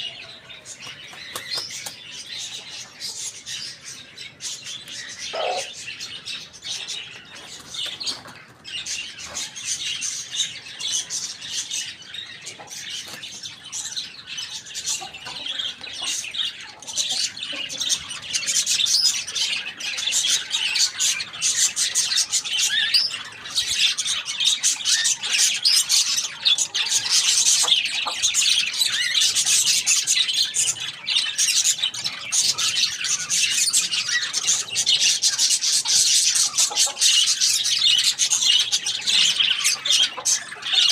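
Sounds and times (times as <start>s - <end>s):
flock of birds chirping and squawking: 0.0s - 40.9s.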